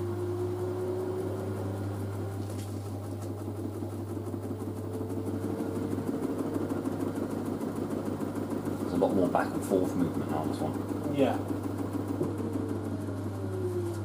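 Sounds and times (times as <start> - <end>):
steady low hum: 0.0 - 14.0
washing machine motor whine: 0.0 - 14.0.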